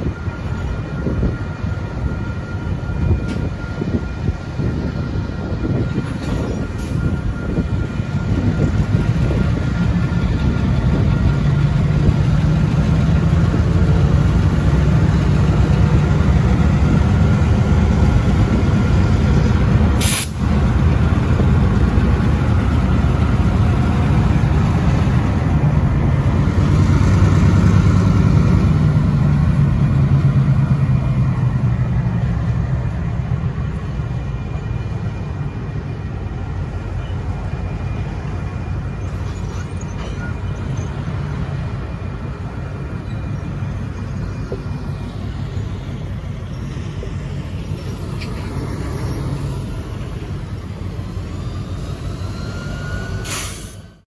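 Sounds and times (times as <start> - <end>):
crossing warning bells: 0.0 - 54.0
diesel locomotives running under load: 0.0 - 54.0.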